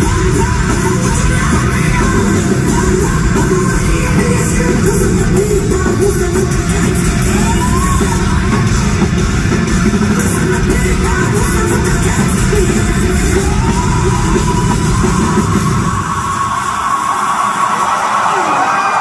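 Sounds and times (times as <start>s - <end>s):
live heavy metal band: 0.0s - 19.0s.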